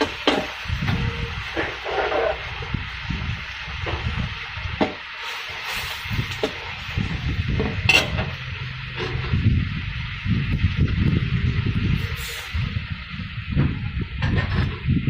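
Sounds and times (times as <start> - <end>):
low rumble: 0.0 - 4.8, 5.5 - 15.0
food sizzling: 0.0 - 15.0.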